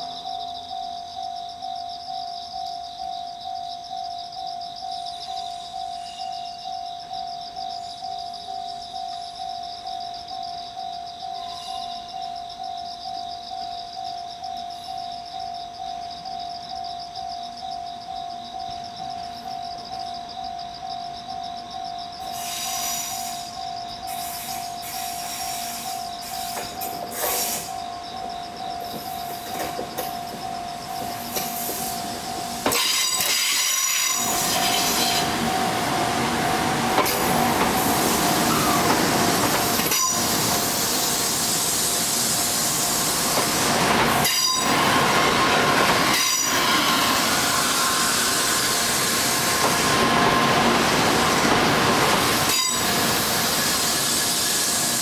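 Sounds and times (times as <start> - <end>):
train rolling past: 0.0 - 55.0
wheels squealing on rails: 5.0 - 17.5, 18.2 - 55.0.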